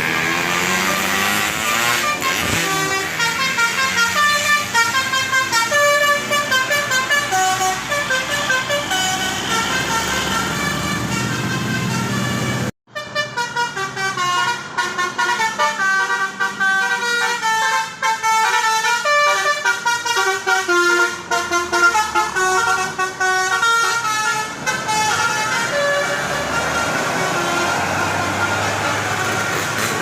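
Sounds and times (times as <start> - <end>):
vehicle running: 0.0 - 18.8, 19.4 - 30.0
bus air horn melody: 0.0 - 30.0.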